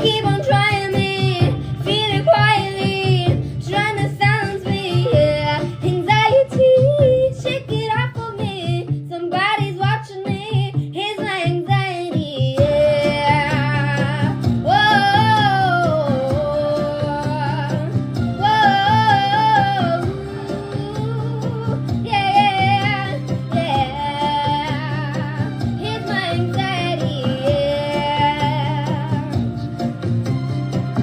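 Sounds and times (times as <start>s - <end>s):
woman singing with vibrato: 0.0s - 29.6s
backing music with low bass: 0.0s - 31.0s.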